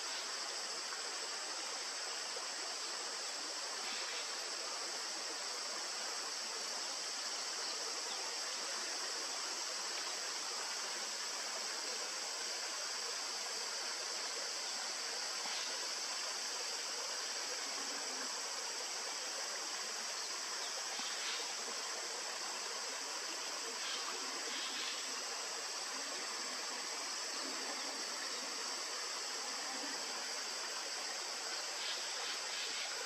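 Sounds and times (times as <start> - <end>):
high hiss: 0.0 - 33.0.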